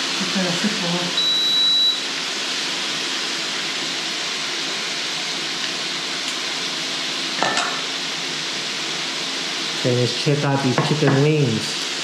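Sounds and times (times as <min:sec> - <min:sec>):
deep-frying sizzle in hot oil: 0:00.0 - 0:12.0.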